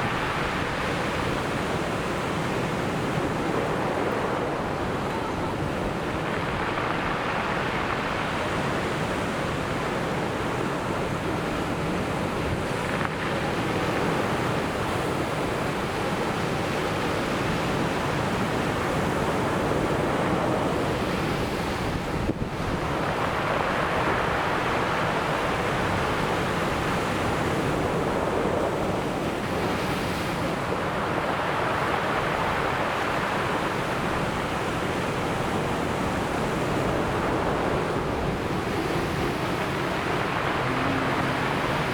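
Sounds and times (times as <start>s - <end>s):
ocean waves breaking on beach: 0.0s - 41.9s.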